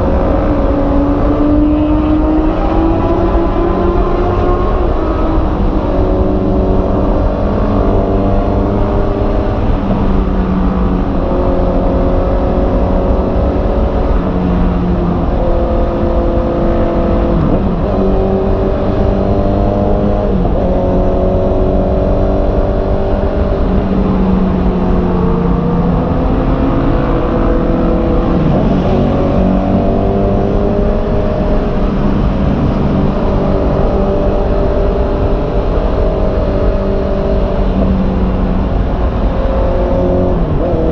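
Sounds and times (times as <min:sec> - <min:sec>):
wind rumble: 0:00.0 - 0:40.9.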